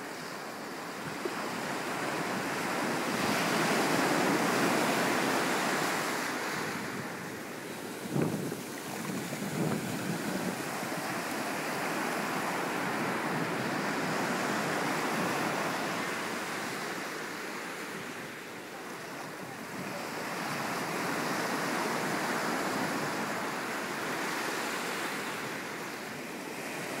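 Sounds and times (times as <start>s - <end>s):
ocean surf breaking on beach: 0.0s - 27.0s.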